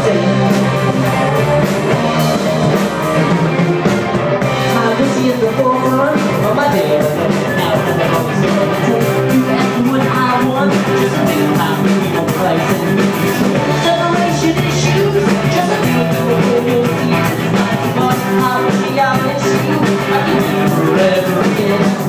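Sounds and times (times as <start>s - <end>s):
bass guitar: 0.0s - 22.0s
distorted electric guitar: 0.0s - 22.0s
drum kit with cymbal hits: 0.0s - 22.0s.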